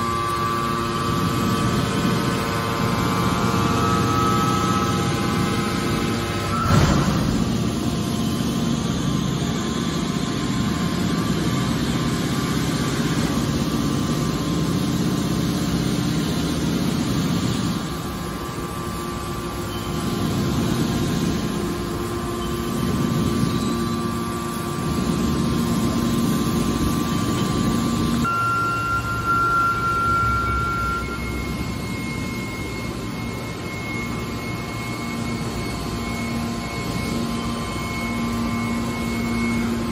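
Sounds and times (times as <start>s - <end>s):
constant whine: 0.0s - 39.9s
hydraulic baler humming: 0.0s - 39.9s.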